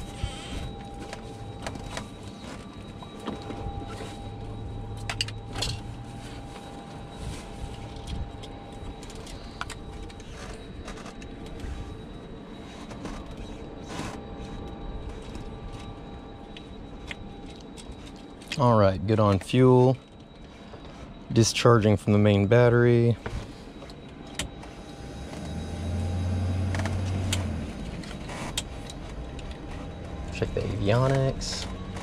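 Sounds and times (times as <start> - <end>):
electrical hum and whine: 0.0 - 32.0.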